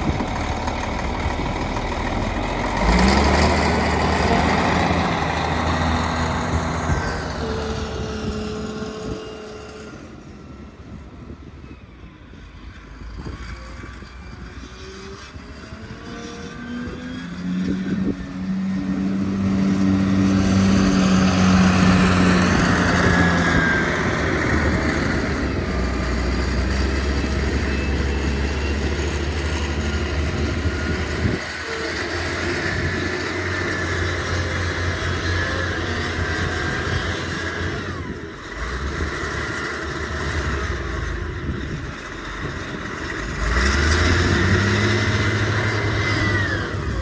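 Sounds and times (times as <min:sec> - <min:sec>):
engine running: 0:00.0 - 0:47.0.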